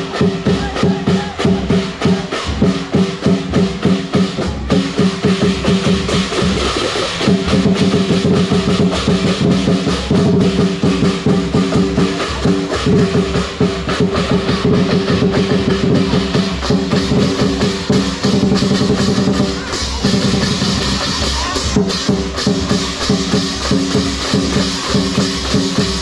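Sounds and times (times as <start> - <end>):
drum beat: 0.0 - 26.0
hand cymbals clashing: 0.0 - 26.0.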